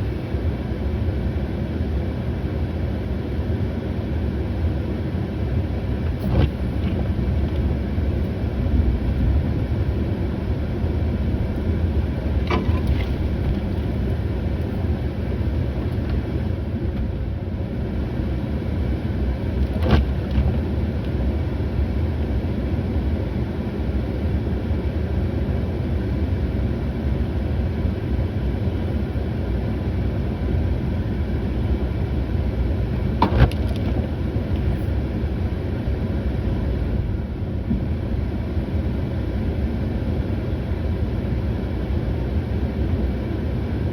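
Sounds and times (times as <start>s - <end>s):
vehicle engine running: 3.2s - 42.2s.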